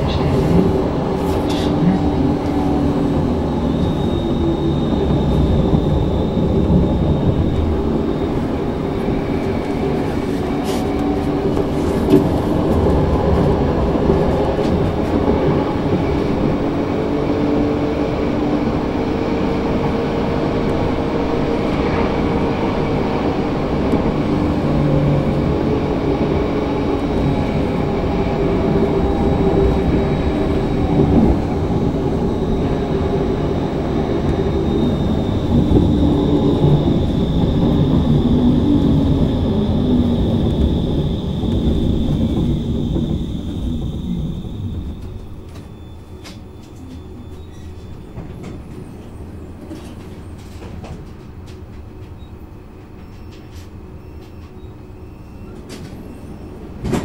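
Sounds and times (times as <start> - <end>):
tram motor tones: 0.0 - 57.0
tram wheels rumbling on rail: 0.0 - 57.0.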